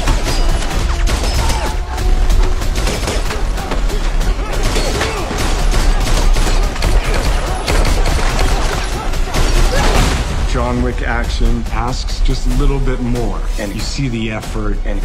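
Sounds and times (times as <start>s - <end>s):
rapid gunshots: 0.0s - 14.2s
film music with heavy bass: 0.0s - 15.0s.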